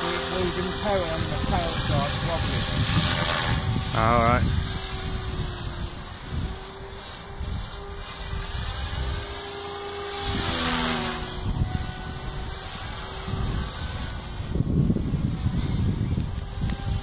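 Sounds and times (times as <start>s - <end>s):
model helicopter motor whine: 0.0s - 17.0s
wind buffeting microphone: 0.0s - 17.0s.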